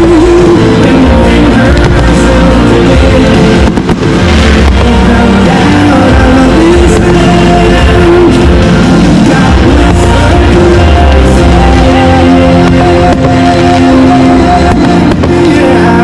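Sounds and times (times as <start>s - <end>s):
loud rock music with singing: 0.0s - 16.0s.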